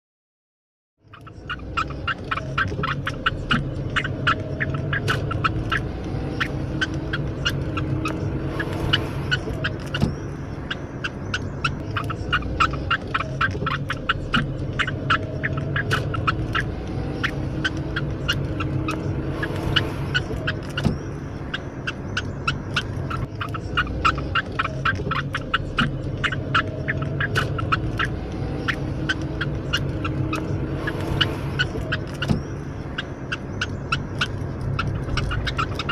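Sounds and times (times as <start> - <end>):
budgerigar squeaking rapidly: 1.0 - 35.9.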